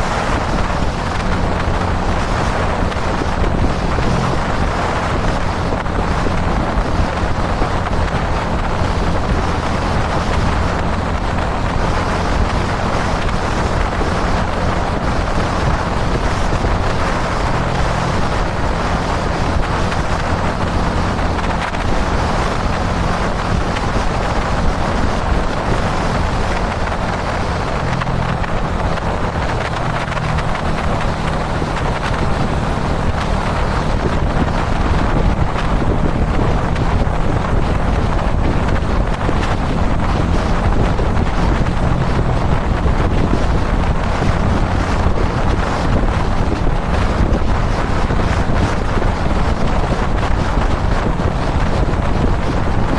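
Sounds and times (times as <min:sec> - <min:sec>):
motorcycle engine cruising: 0:00.0 - 0:52.9
wind rush on microphone: 0:00.0 - 0:52.9.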